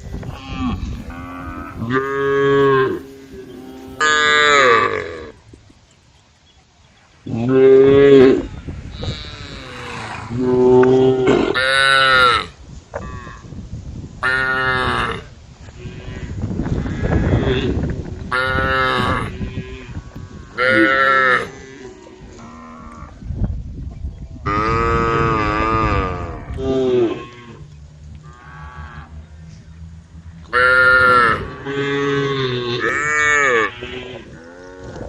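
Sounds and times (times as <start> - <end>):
cows mooing: 0.2 - 5.4, 7.3 - 13.4, 14.2 - 23.2, 24.5 - 35.0.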